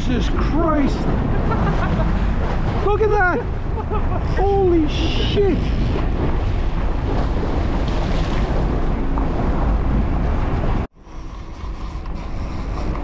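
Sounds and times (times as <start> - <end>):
boat engine rumble: 0.0 - 13.0
water rushing past boat: 0.0 - 13.0
wind buffeting microphone: 0.0 - 13.0.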